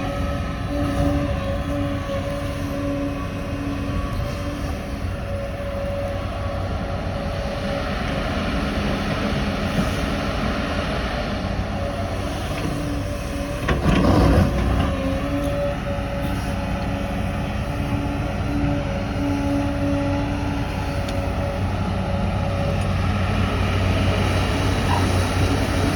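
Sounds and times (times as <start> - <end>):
excavator running: 0.0 - 25.9.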